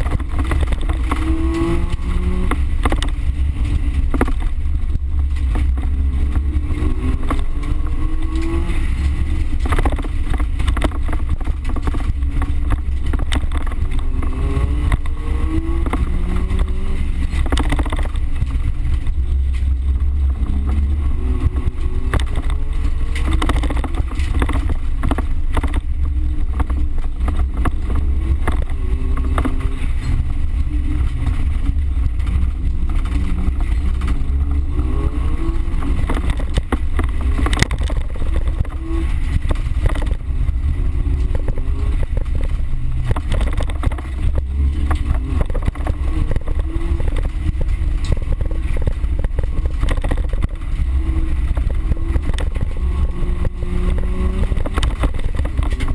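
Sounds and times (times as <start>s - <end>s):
car engine revving: 0.0s - 55.9s
knocks and rattles: 0.0s - 55.9s.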